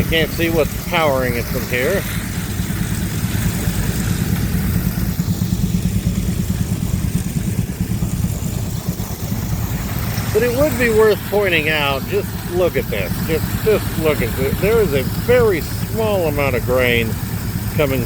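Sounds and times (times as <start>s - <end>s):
threshing machine rumbling: 0.0s - 18.0s.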